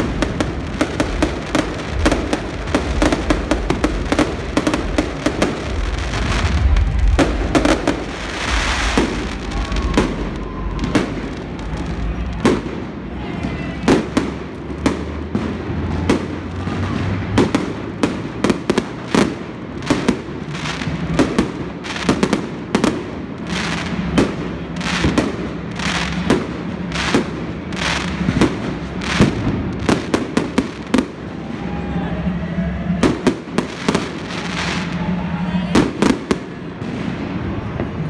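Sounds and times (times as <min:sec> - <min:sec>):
fireworks bangs: 0:00.0 - 0:38.0
steady background noise: 0:00.0 - 0:38.0.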